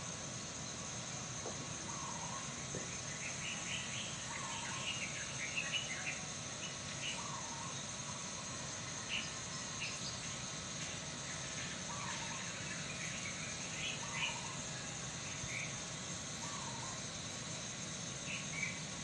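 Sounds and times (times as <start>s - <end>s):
high insect trill: 0.0s - 19.0s
small birds chirping: 0.2s - 19.0s.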